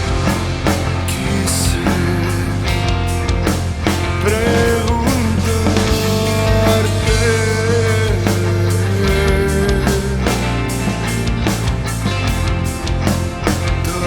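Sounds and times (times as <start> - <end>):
electric guitar lead line: 0.0 - 14.0
rock band music: 0.0 - 14.0.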